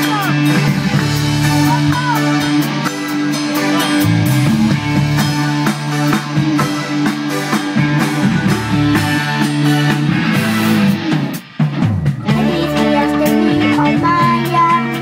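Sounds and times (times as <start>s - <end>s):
drum kit beat: 0.0s - 15.0s
electric guitar: 0.0s - 15.0s.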